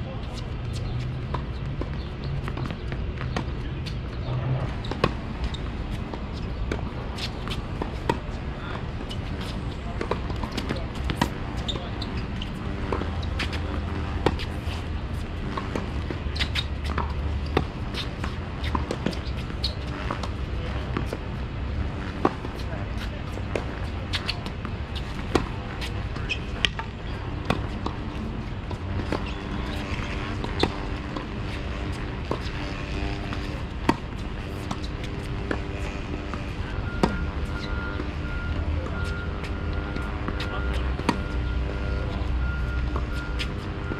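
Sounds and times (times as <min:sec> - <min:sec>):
traffic: 0:00.0 - 0:43.9.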